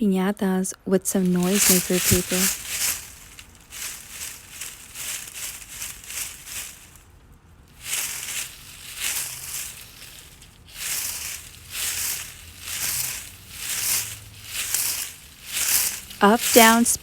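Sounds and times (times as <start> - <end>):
paper noisemaker rustling: 1.1 - 17.0.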